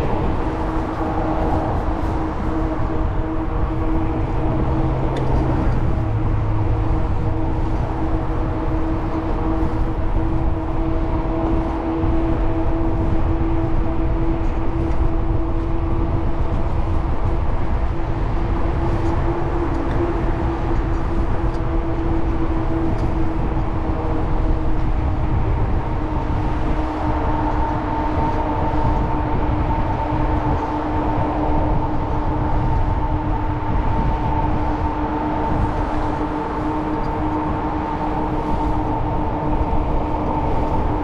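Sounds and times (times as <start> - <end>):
steady tonal hum: 0.0 - 41.0
wind rushing over microphone: 0.0 - 41.0.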